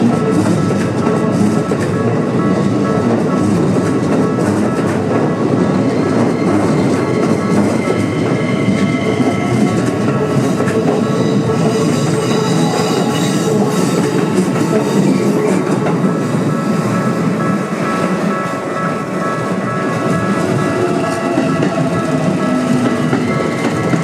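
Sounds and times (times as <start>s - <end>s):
crossing warning bell ringing: 0.0s - 24.0s
train wheels rumbling and clattering: 0.0s - 24.0s.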